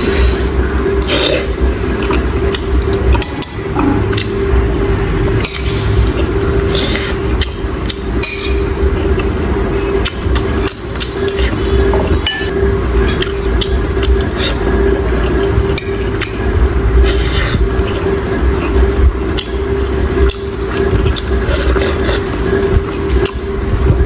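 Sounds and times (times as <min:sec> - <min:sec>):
utensils clinking against a bowl: 0:00.0 - 0:04.6, 0:05.4 - 0:23.5
steady hum: 0:00.0 - 0:24.0.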